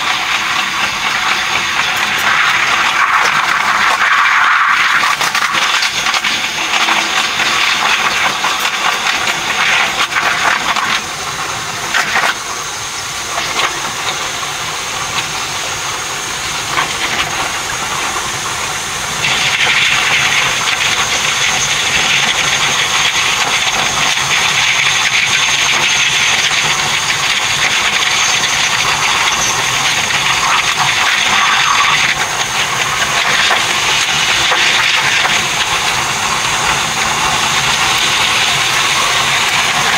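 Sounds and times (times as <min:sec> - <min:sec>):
high whine: 0:00.0 - 0:39.9
train running noise: 0:00.0 - 0:39.9.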